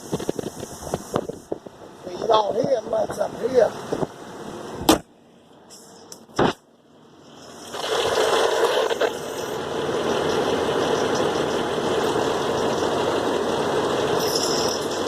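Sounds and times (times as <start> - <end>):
truck engine running with rattle: 0.0 - 15.0.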